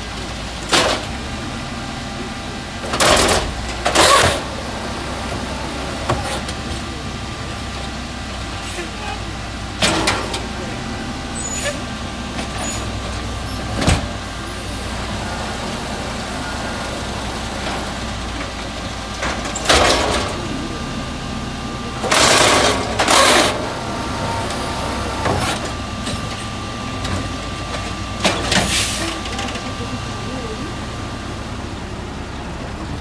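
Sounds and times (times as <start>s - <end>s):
garbage truck running with whine: 0.0s - 33.0s.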